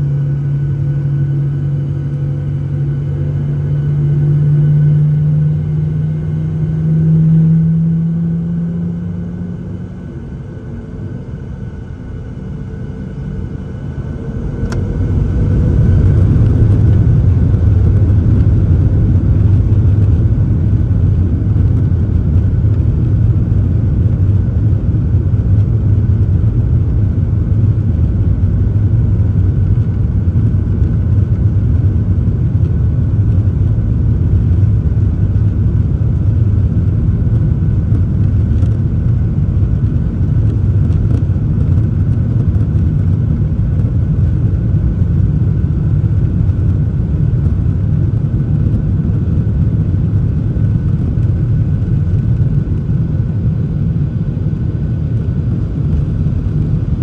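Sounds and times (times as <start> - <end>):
faint engine whine: 0.0 - 57.0
jet engines rumbling: 0.0 - 57.0.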